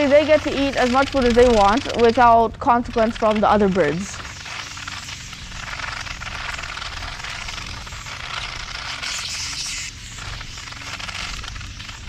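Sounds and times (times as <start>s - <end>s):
wing flutters: 0.0s - 12.0s.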